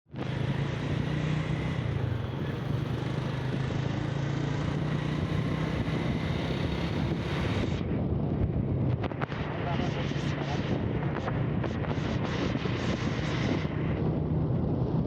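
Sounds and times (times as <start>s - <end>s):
low engine drone: 0.1s - 15.0s.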